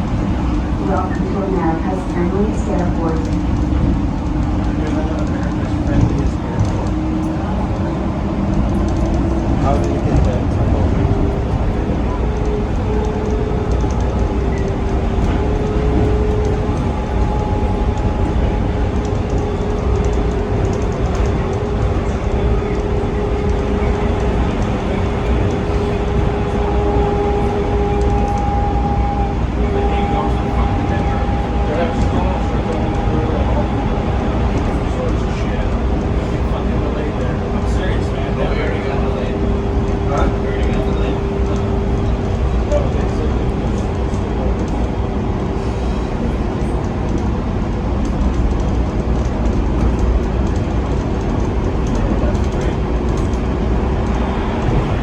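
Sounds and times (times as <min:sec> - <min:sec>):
higher whine: 0:00.0 - 0:47.4
train car rumbling on guideway: 0:00.0 - 0:55.0.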